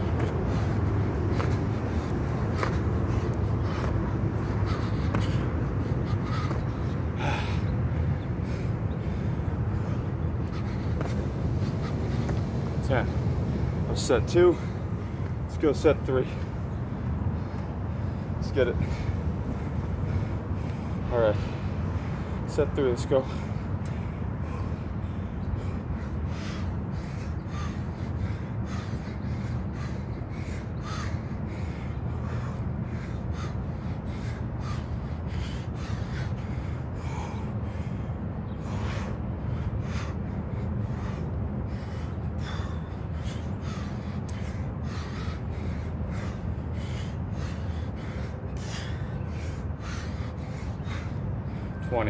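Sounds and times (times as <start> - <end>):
low background rumble: 0.0 - 51.9
man breathing hard: 0.0 - 52.0.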